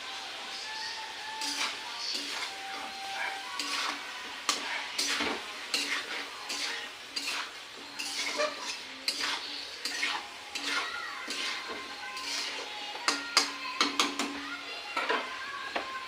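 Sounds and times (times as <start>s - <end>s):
spoon scraping and knocking pan: 1.4s - 14.4s.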